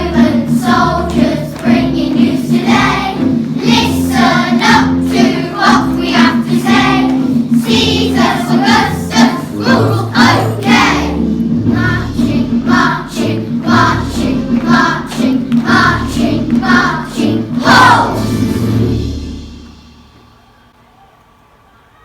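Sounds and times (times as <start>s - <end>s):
children's choir singing: 0.0s - 19.8s
backing track music: 0.0s - 20.6s.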